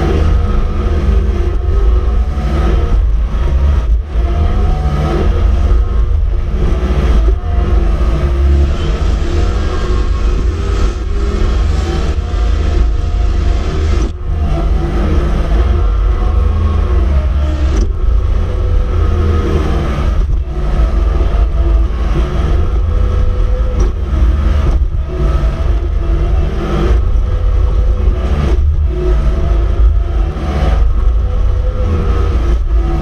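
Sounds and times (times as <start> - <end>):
diesel engine running hard: 0.0 - 33.0.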